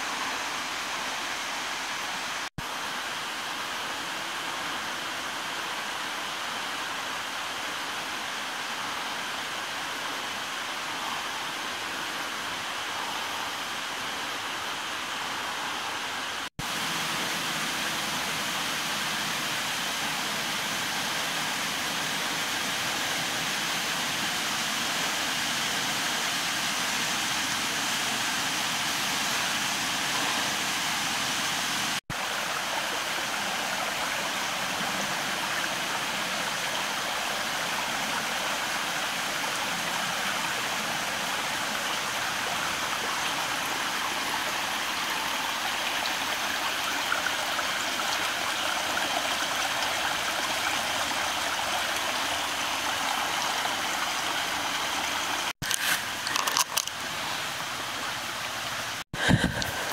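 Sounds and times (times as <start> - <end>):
stream rushing over stones: 0.0 - 59.9.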